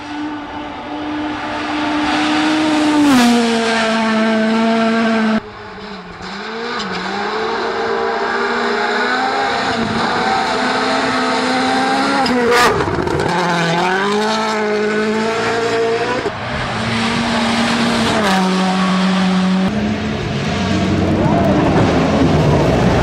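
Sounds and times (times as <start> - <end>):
rally car engine at full throttle: 0.0 - 23.0.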